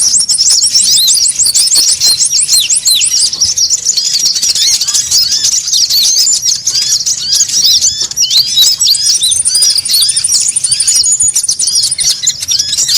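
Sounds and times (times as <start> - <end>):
sunbirds chirping: 0.0 - 12.9.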